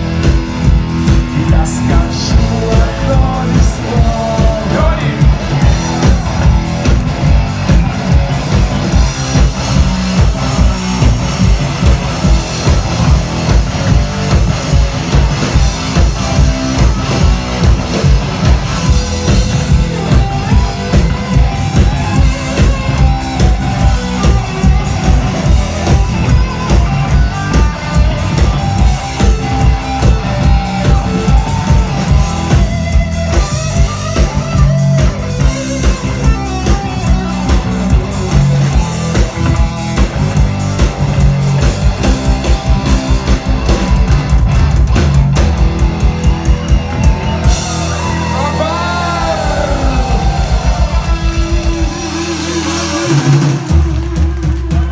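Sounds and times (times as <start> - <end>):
bass guitar: 0.0 - 54.9
drum kit beat: 0.0 - 54.9
electric guitar: 0.0 - 54.9.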